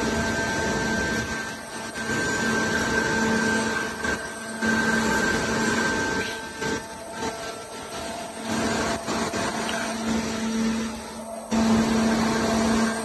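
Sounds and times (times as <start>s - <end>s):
hydraulic power unit droning: 0.0s - 13.0s.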